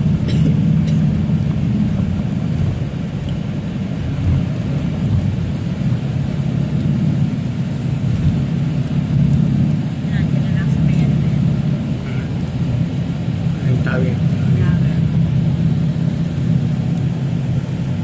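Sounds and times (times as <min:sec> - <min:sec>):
vehicle road and engine rumble: 0:00.0 - 0:18.0.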